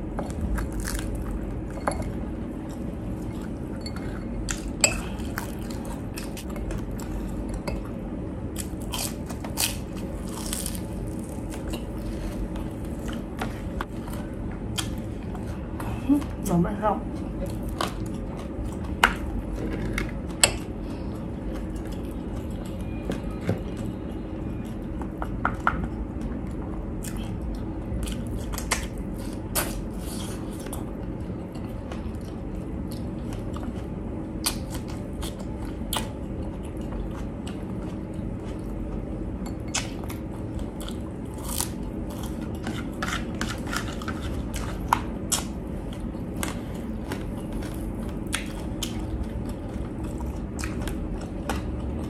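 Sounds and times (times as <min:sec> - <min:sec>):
person chewing crispy food: 0:00.0 - 0:07.6, 0:08.4 - 0:16.1, 0:17.1 - 0:52.0
steady low hum: 0:00.0 - 0:52.0.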